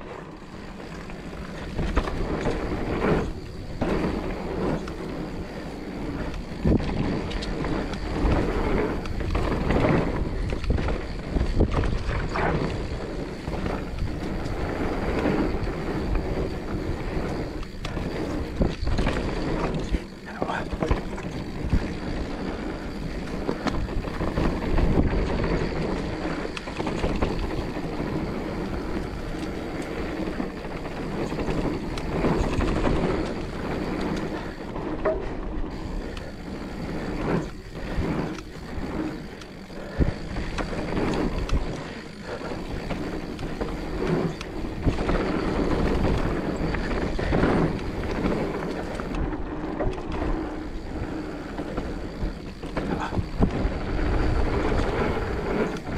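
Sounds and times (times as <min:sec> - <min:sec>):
bike knocking and rattling: 0:00.0 - 0:55.9
wind buffeting microphone: 0:00.0 - 0:55.9
tyre noise on dirt: 0:00.1 - 0:55.9.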